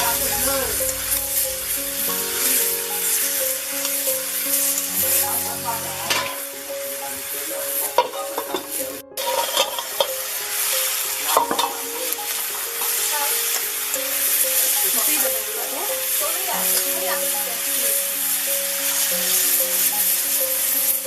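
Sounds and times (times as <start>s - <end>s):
soft background music: 0.0s - 21.0s
steady hiss: 0.0s - 21.0s.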